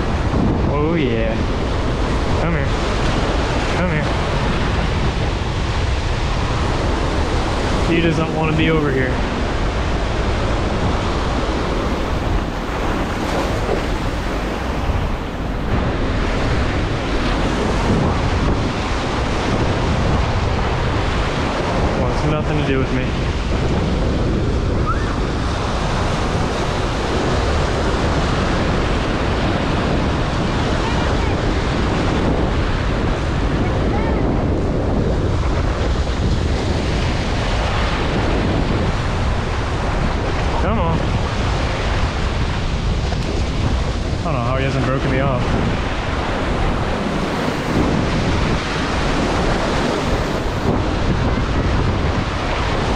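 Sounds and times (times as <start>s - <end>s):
surf washing: 0.0s - 52.9s
waves breaking on shore: 0.0s - 52.9s
wind buffeting microphone: 0.0s - 52.9s.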